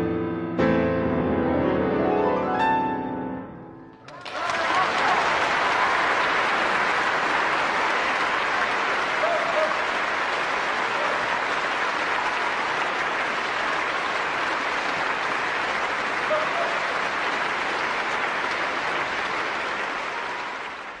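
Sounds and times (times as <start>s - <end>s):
audience applauding: 4.0s - 21.0s.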